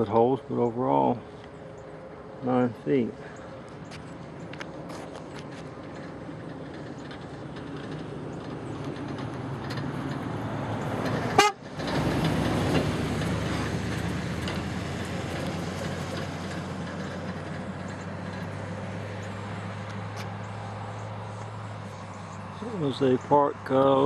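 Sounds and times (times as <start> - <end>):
vehicle engine passing: 0.0 - 24.0.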